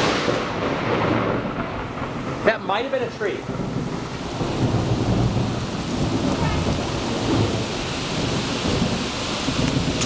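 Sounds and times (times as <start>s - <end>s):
heavy rain: 0.0s - 10.0s
thunder rumbling: 0.0s - 10.0s.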